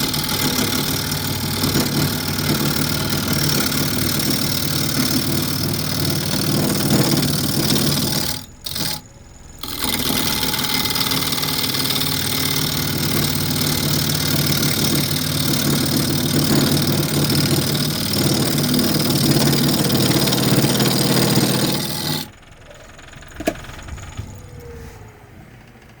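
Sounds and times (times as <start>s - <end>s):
lathe tool cutting hiss: 0.0s - 22.3s
wood lathe hum: 0.0s - 25.4s.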